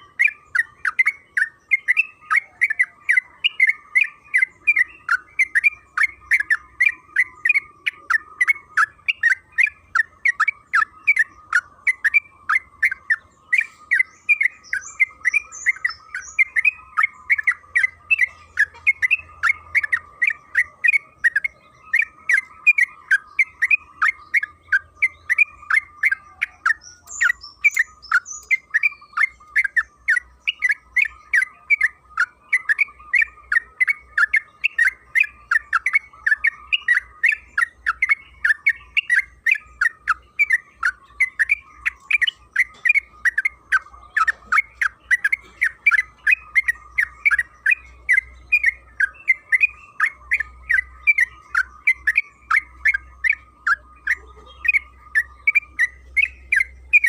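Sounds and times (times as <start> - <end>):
bird singing chattering notes: 0.0 - 57.0.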